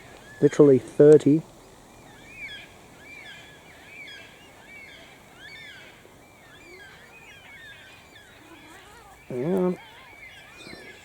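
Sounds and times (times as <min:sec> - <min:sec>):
distant cockatoos calling: 0:00.0 - 0:11.0.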